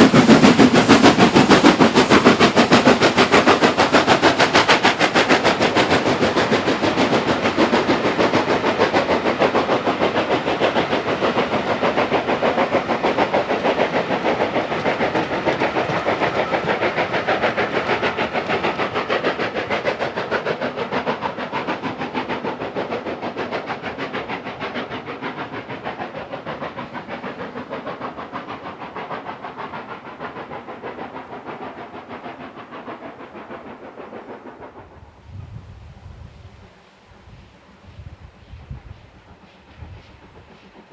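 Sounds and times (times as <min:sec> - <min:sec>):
steam hissing: 0:00.0 - 0:40.9
steam locomotive exhaust beating: 0:00.0 - 0:40.9.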